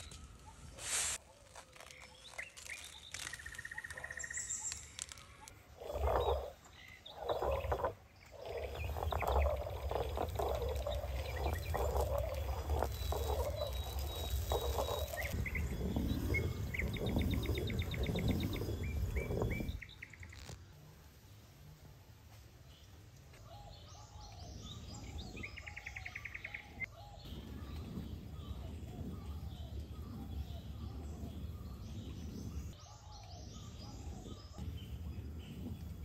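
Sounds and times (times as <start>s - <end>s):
small birds chirping: 0.0s - 20.6s, 22.7s - 36.0s.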